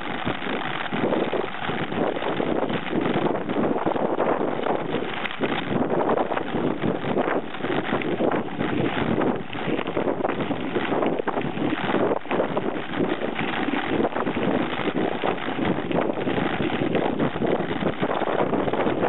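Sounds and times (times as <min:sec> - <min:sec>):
bike rattling over bumps: 0:00.0 - 0:19.0
wind noise on microphone: 0:00.0 - 0:19.0.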